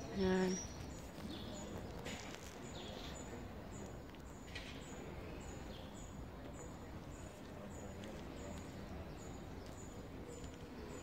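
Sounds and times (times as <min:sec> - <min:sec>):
faint street ambience: 0:00.0 - 0:11.0.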